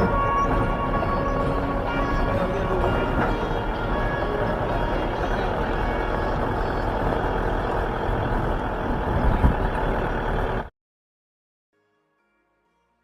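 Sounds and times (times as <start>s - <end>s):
vehicle engine and road noise: 0.0s - 10.7s.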